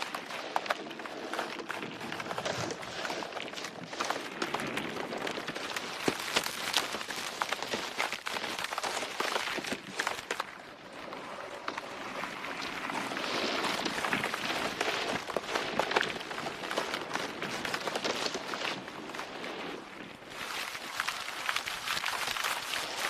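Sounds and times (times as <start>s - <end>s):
crackle of snaps and rustling: 0.0s - 23.0s.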